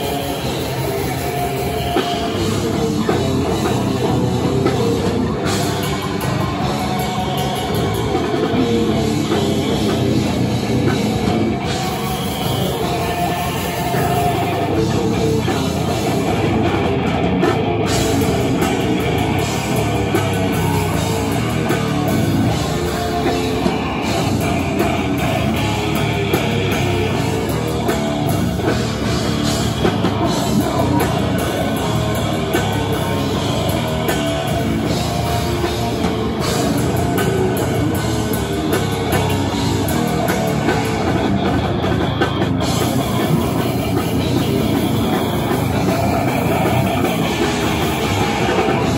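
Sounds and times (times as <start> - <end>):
death metal band playing live: 0.0 - 48.9.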